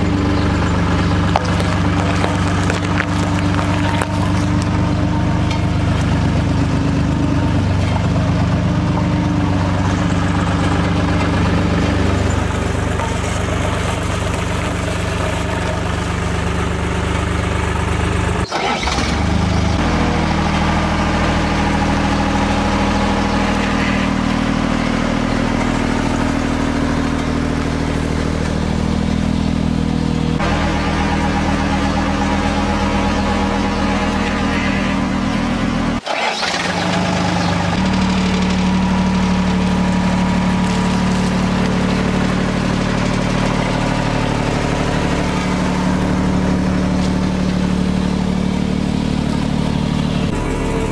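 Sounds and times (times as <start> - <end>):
diesel engine running steadily: 0.0 - 50.9.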